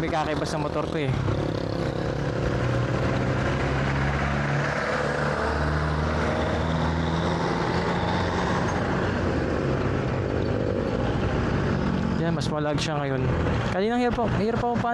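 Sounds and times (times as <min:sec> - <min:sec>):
wind and road noise: 0:00.0 - 0:14.9.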